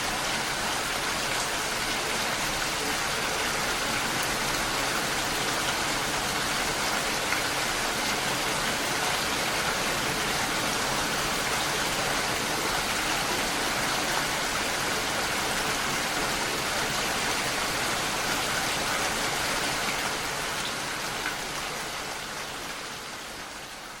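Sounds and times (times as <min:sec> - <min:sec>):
rain falling on water: 0:00.0 - 0:24.0.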